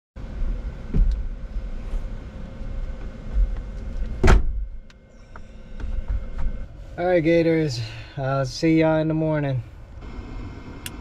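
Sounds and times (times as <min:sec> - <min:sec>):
low rumble: 0:00.2 - 0:08.6, 0:09.6 - 0:11.0.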